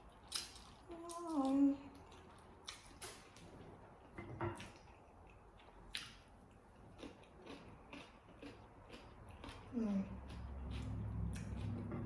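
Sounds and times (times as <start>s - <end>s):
chewing with clicks and crunches: 0.0s - 12.0s.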